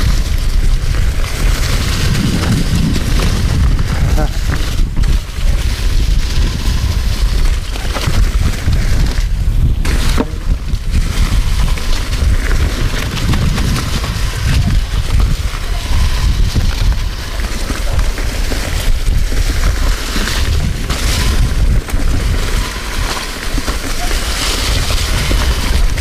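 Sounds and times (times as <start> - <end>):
bike clicks and rattles: 0.0 - 26.0
tyres crunching through leaves: 0.0 - 26.0
wind buffeting microphone: 0.0 - 26.0.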